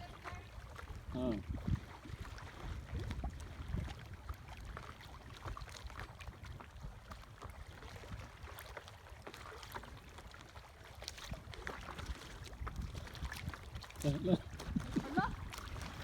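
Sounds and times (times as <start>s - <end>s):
wind on microphone: 0.0s - 8.6s, 11.3s - 16.0s
paddle splashes and drips: 0.0s - 16.0s.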